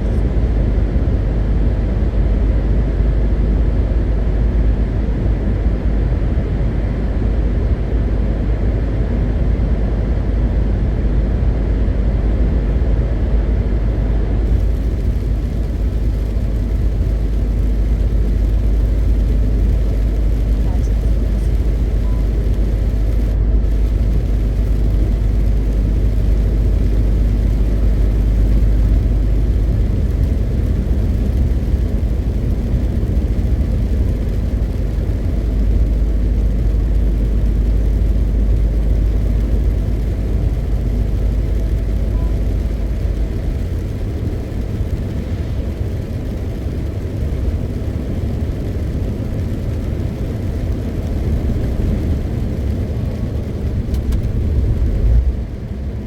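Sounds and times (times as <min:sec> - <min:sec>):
road noise: 0:00.0 - 0:56.0
truck diesel engine rumble: 0:10.7 - 0:56.0.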